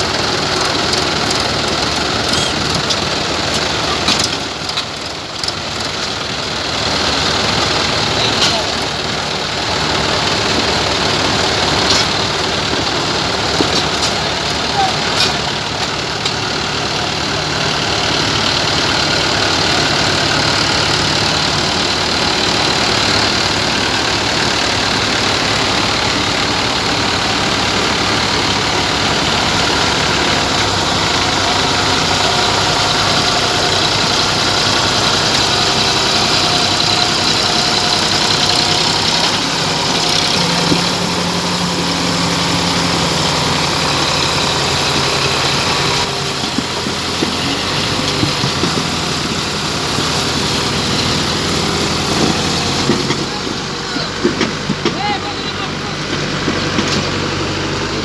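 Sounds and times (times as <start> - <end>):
tractor diesel engines running: 0.0 - 58.0.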